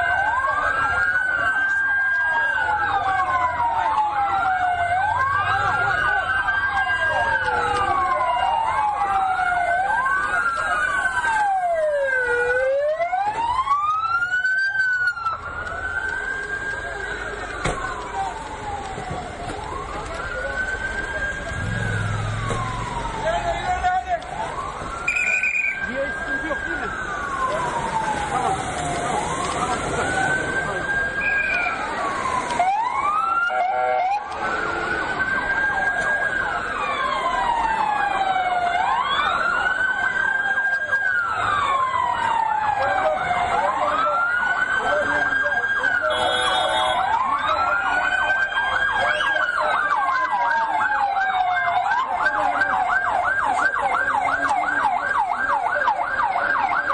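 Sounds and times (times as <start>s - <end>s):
emergency sirens wailing: 0.0s - 56.9s.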